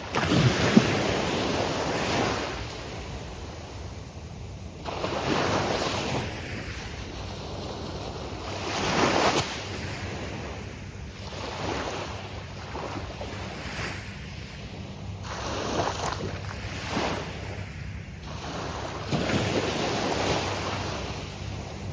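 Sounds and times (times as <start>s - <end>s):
waves crashing on a beach: 0.0s - 21.9s.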